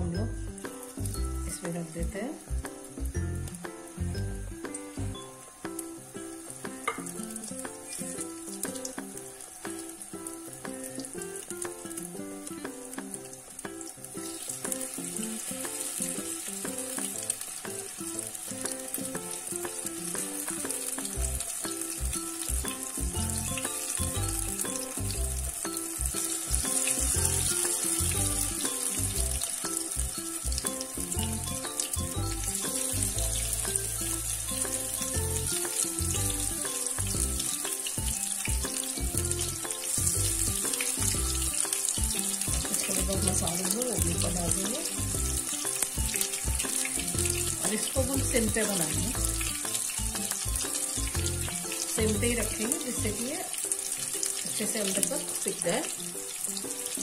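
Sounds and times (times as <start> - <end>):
background music: 0.0 - 57.0
fish sizzling in oil: 0.0 - 57.0.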